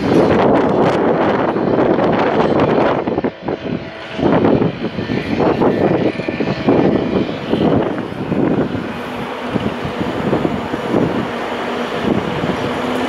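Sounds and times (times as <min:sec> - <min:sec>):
train rumbling: 0:00.0 - 0:13.0
wind on microphone: 0:00.0 - 0:13.0.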